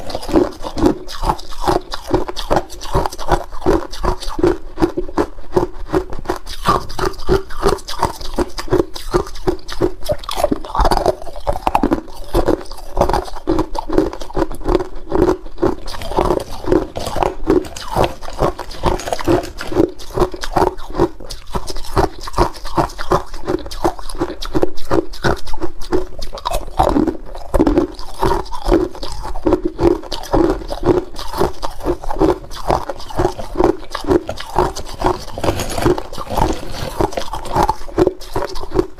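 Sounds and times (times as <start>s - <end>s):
ice cubes crunching: 0.0s - 5.7s, 6.3s - 24.4s, 26.2s - 38.9s.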